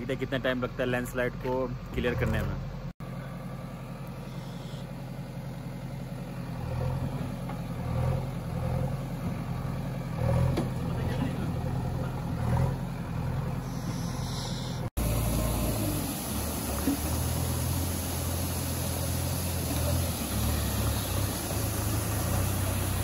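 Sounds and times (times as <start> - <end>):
diesel engine revving: 1.8 - 23.0.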